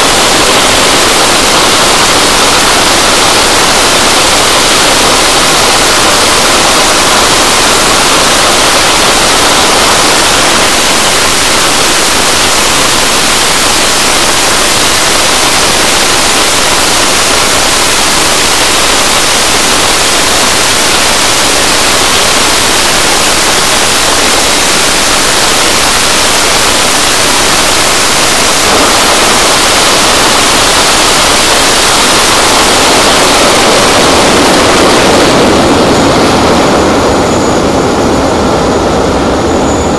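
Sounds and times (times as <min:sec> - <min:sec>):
jet engine roaring with afterburner: 0:00.0 - 0:39.9.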